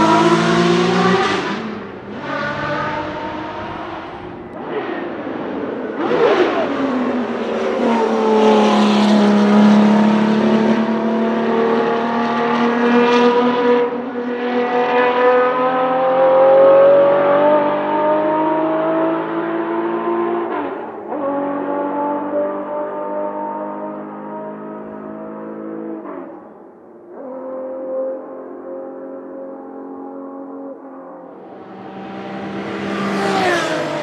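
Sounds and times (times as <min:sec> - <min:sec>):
racing car engine accelerating: 0:00.0 - 0:26.4, 0:31.2 - 0:34.0.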